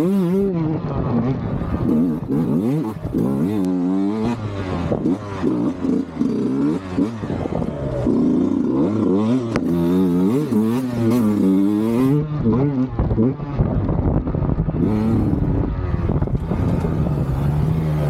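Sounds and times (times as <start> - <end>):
two-stroke engine revving: 0.0 - 13.7, 14.6 - 18.0.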